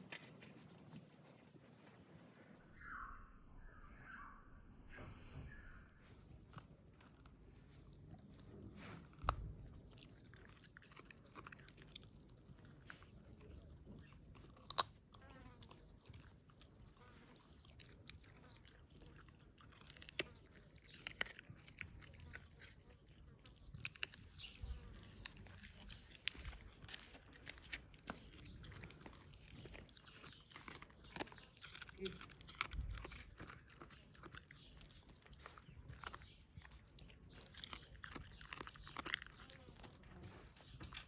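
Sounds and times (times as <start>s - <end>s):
dog crunching carrot: 6.2s - 41.0s.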